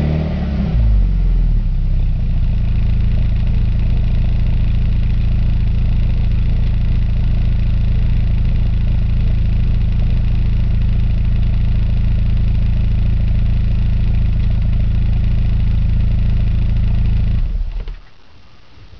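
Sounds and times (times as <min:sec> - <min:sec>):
car engine idling: 0:00.8 - 0:18.1.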